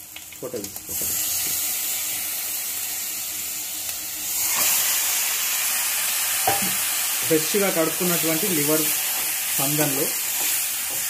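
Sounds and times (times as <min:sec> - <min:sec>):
chicken livers sizzling in oil: 0:00.0 - 0:11.0.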